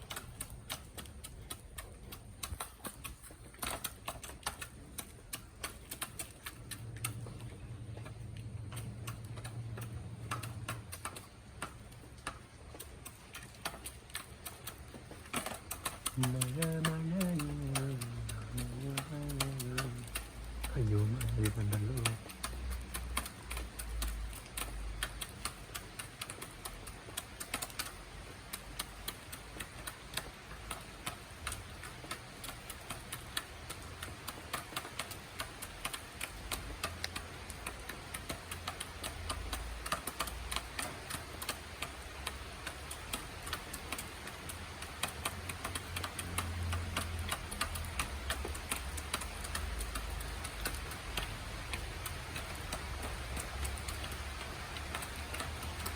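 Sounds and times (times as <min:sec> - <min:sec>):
chickens pecking at feed: 0:00.0 - 0:55.9.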